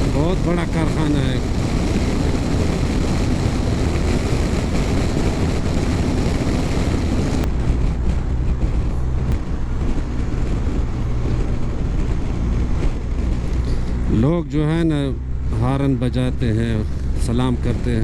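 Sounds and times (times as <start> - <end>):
motorcycle engine drone: 0.0 - 18.0
wind rushing over microphone: 0.0 - 18.0.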